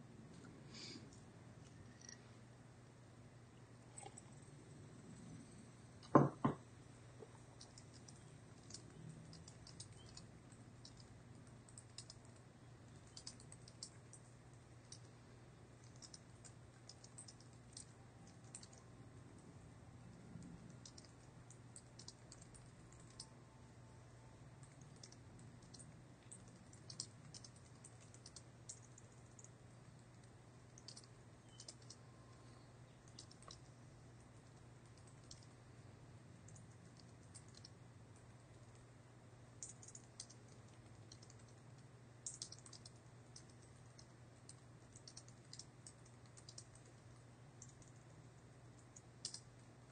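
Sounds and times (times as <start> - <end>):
faint keyboard typing: 0.3 - 2.3, 3.8 - 6.6, 7.2 - 49.9.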